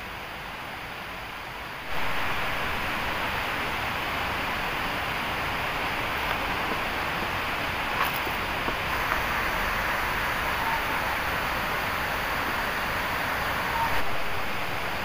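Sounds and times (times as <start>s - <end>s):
rushing forest ambience: 0.0s - 15.0s.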